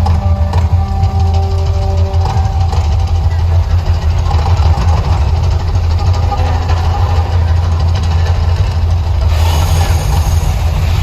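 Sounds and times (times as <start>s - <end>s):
deep steady rumble: 0.0s - 11.0s.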